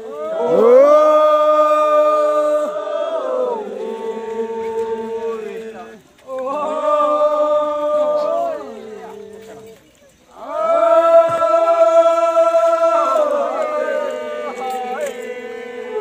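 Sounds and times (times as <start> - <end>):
men chanting in long notes: 0.0 - 9.7, 10.3 - 16.0.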